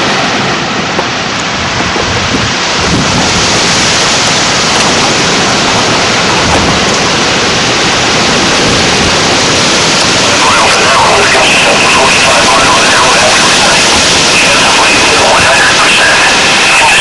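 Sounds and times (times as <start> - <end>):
storm wind through leafy trees: 0.0 - 17.0
wind buffeting microphone: 0.0 - 17.0.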